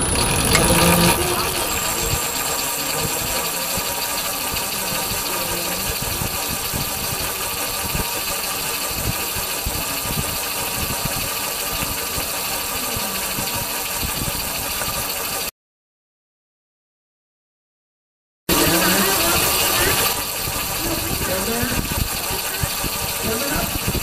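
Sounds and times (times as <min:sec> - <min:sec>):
vehicle mechanical running noise: 0:00.0 - 0:15.5, 0:18.5 - 0:24.0.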